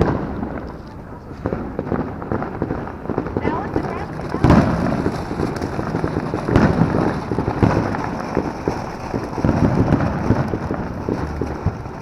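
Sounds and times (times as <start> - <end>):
fireworks bangs: 0.0 - 12.0
fireworks crackling pops: 0.0 - 12.0.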